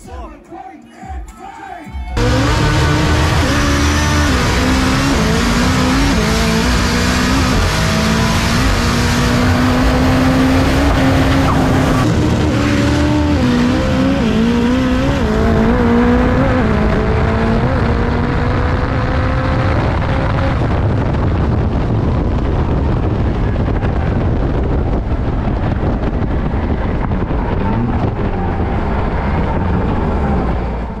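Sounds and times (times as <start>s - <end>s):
drag car engine revving: 2.2s - 31.0s
wind and road noise: 2.2s - 31.0s.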